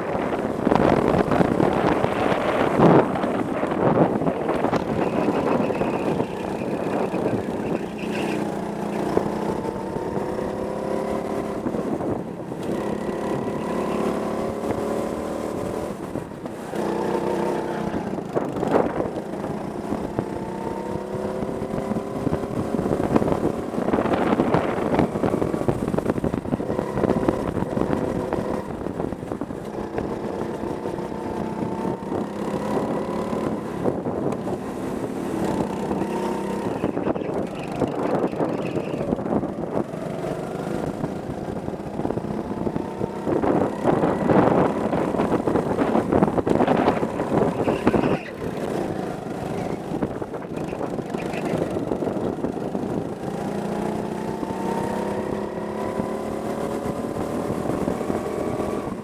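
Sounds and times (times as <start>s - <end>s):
go-kart engine accelerating: 0.0s - 59.0s.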